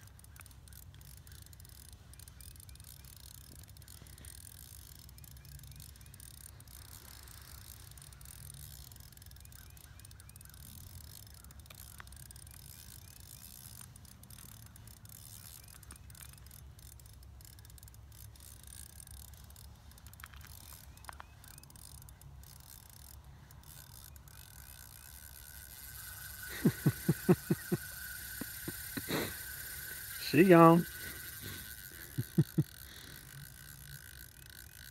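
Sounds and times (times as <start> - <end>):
fishing reel clicking: 0.0 - 34.9.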